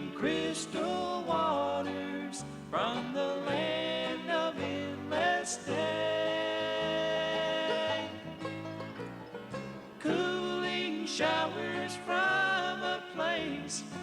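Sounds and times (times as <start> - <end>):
bluegrass gospel music: 0.0 - 14.0.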